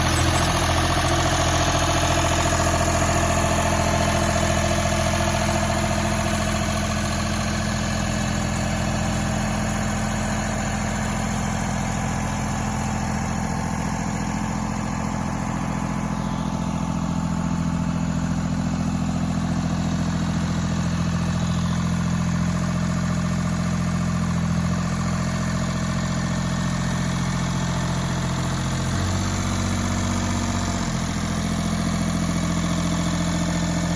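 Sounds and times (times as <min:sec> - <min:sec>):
lawn tractor engine idling: 0:00.0 - 0:33.9.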